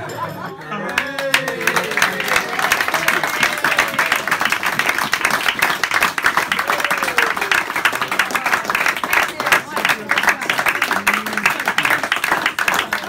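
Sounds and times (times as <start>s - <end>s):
crowd applauding: 0.7s - 13.0s.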